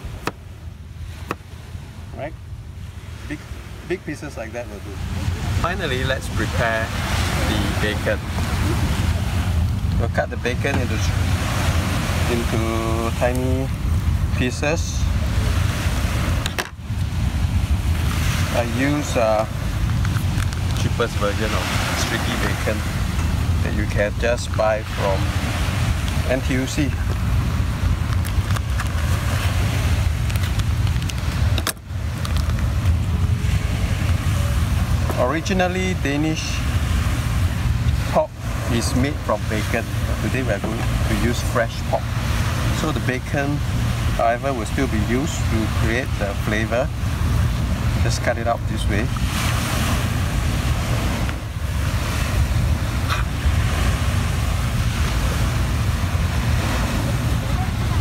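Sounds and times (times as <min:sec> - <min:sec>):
wind buffeting microphone: 0:00.0 - 0:58.0
sea surf hissing: 0:01.0 - 0:28.1, 0:33.1 - 0:58.0.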